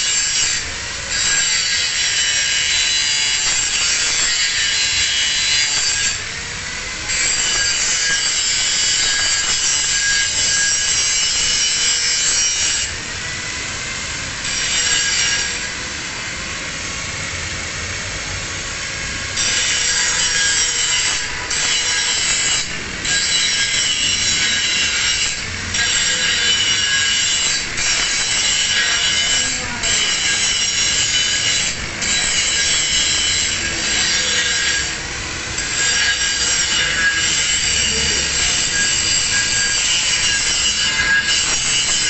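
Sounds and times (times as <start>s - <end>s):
angle grinder grinding metal: 0.0s - 16.3s, 18.8s - 42.0s.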